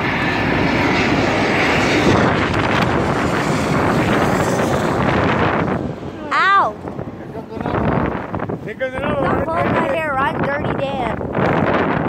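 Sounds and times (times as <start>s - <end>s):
high jet whine: 0.0s - 12.0s
jet engine rush: 0.0s - 12.0s.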